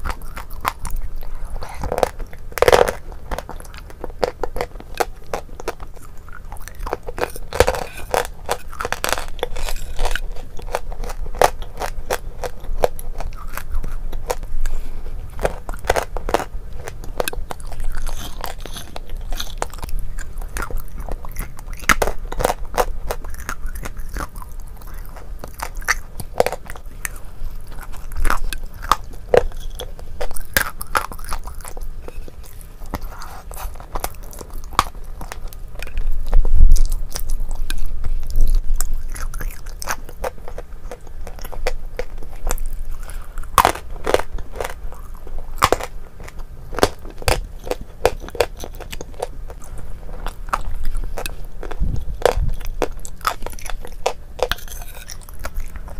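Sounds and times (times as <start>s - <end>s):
chewing crunchy dessert: 0.0s - 55.9s.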